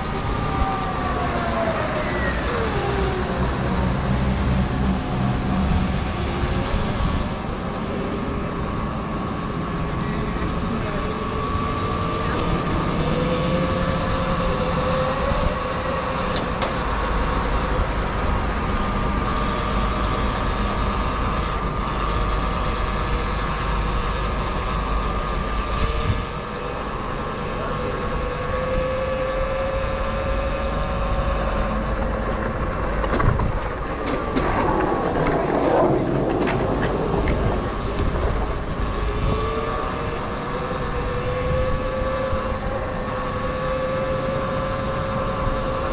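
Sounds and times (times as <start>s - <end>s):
low wind rumble: 0.0s - 45.9s.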